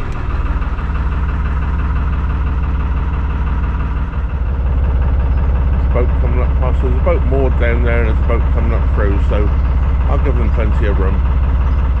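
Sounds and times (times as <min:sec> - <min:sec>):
boat diesel engine running: 0:00.0 - 0:12.0.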